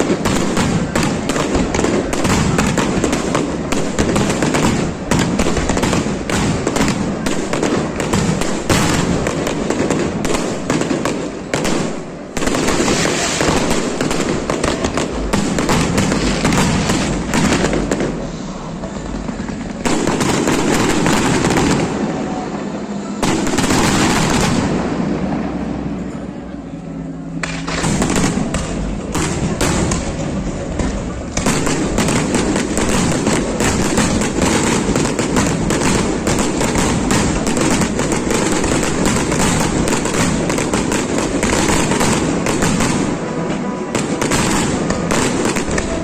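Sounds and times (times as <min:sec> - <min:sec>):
fireworks bangs and crackling: 0:00.0 - 0:26.4, 0:27.1 - 0:46.0.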